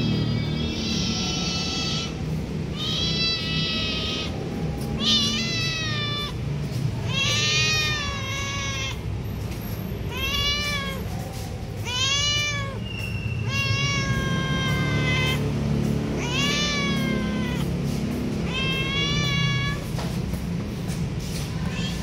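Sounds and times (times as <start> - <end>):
cat meowing: 0.0 - 9.2, 10.0 - 20.0, 21.5 - 22.0.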